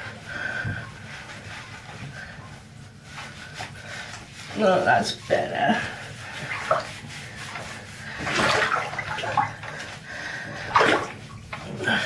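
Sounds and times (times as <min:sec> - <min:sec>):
water splashing in bathtub: 0:00.0 - 0:12.0.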